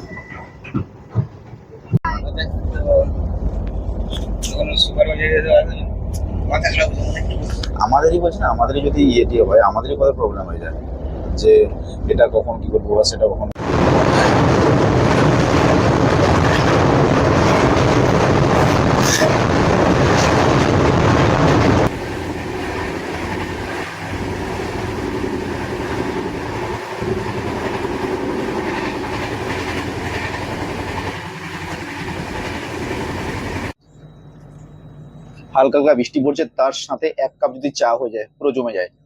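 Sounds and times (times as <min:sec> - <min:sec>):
train running on rails: 0:00.0 - 0:35.7.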